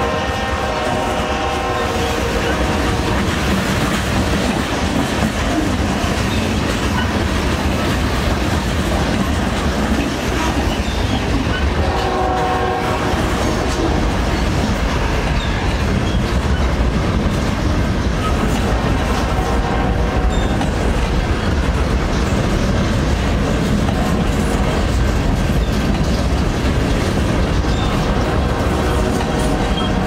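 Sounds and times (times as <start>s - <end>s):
clickety-clack of wheels: 0.0s - 30.0s
freight train rumbling past: 0.0s - 30.0s.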